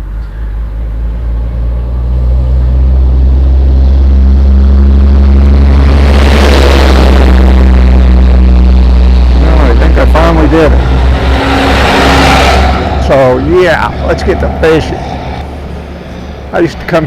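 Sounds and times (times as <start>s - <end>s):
vehicle driving past: 0.0s - 17.0s.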